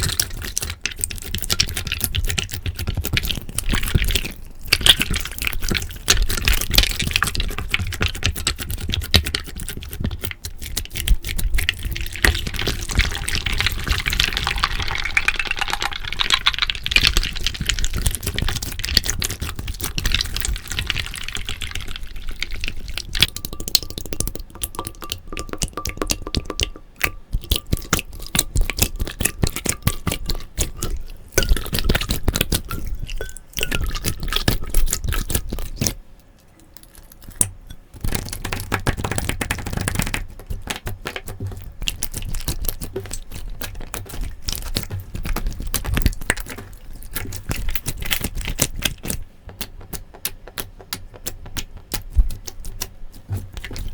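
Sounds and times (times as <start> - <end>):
slime squishing: 0.0 - 53.9.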